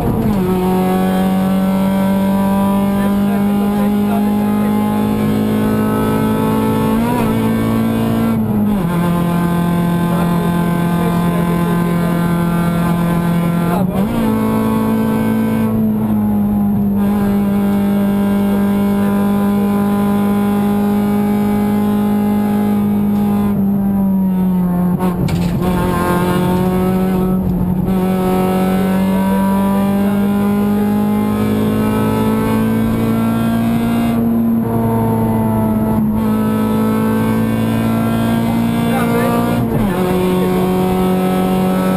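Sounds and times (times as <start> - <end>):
car engine at high revs: 0.0 - 41.9
road and wind noise: 0.0 - 41.9.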